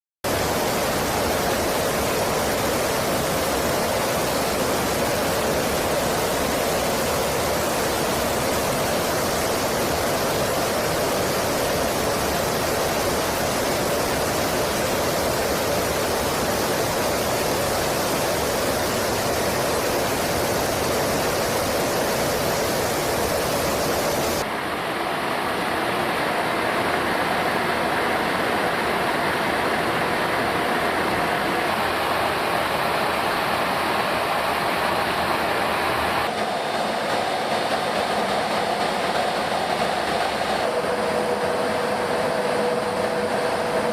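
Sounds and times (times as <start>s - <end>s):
jet engine roar: 0.2s - 43.9s.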